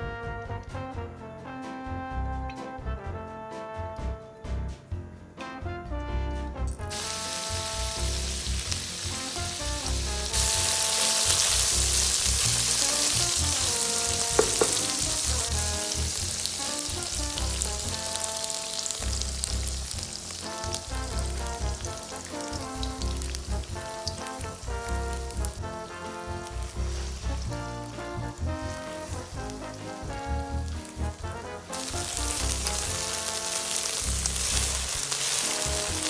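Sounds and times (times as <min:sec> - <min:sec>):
background music: 0:00.0 - 0:36.0
tofu sizzling in hot oil: 0:06.9 - 0:36.0.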